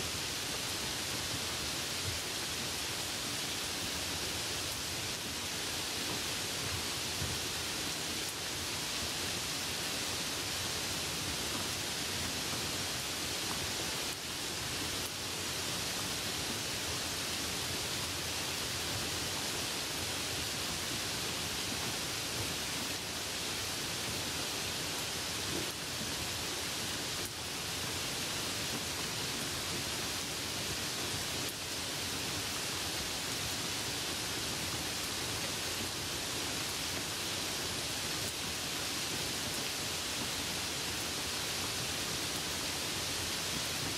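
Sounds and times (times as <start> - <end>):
rain hiss: 0.0 - 43.9.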